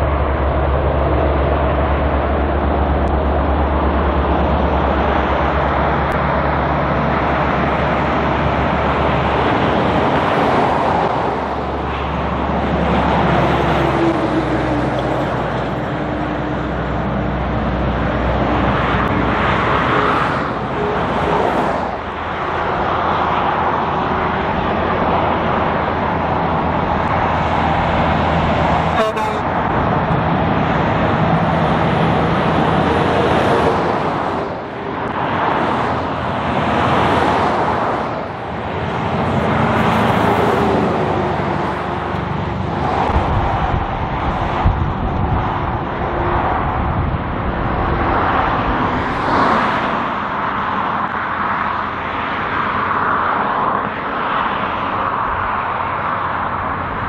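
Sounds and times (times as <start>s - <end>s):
trucks driving past: 0.0s - 57.0s.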